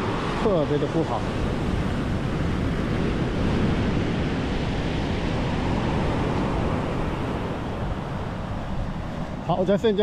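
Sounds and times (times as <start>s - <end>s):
surf breaking on beach: 0.0s - 10.0s
wind buffeting microphone: 0.0s - 10.0s.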